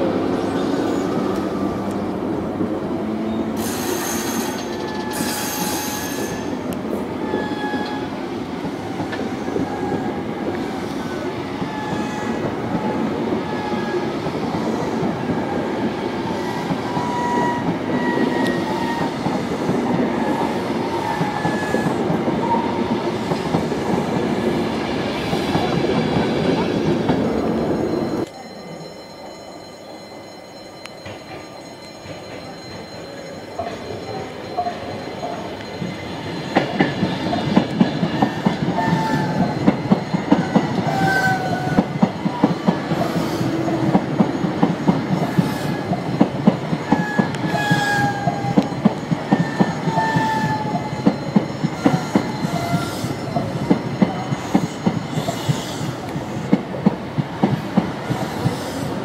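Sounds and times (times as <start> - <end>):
electric train passing: 0.0 - 59.0
high wheel squeals: 3.6 - 8.2, 8.8 - 24.0, 25.2 - 56.6.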